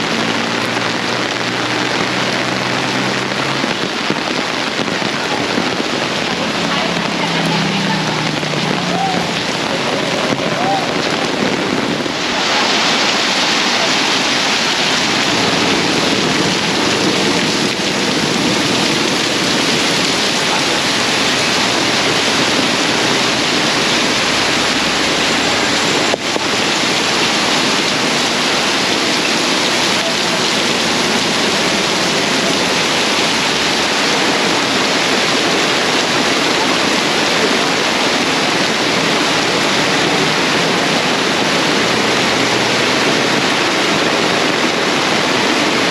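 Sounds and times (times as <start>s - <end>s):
torrential rain pouring: 0.0s - 45.9s.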